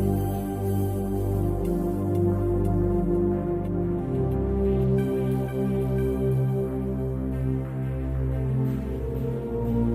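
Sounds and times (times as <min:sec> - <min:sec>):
slow ambient electronic music: 0:00.0 - 0:09.9.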